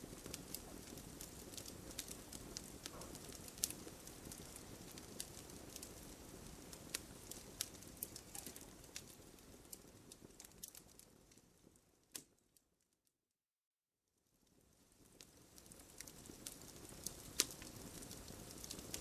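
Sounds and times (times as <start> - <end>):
campfire crackling: 0.0 - 12.6, 14.4 - 19.0.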